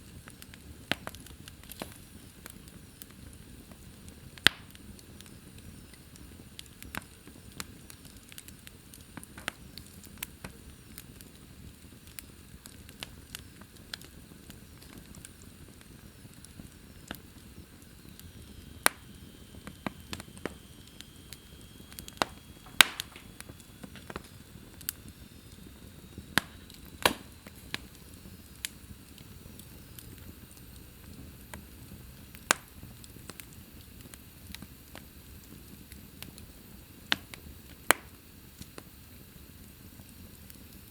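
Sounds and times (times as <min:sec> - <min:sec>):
low steady rumble: 0:00.0 - 0:37.7
wood fire crackling and popping: 0:00.0 - 0:40.9.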